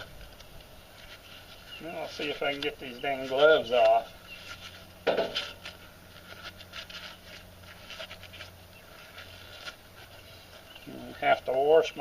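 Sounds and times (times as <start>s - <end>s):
gloves peeling off hands: 0.0s - 11.1s.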